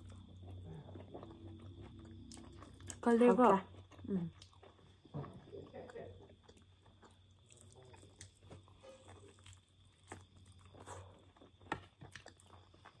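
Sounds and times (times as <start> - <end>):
chewing and biting chicken: 0.0 - 3.0, 3.7 - 13.0.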